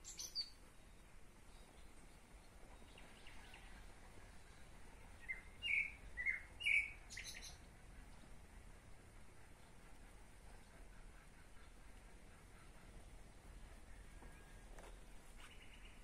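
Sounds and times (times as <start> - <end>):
songbird singing: 0.0 - 8.4, 9.6 - 16.0.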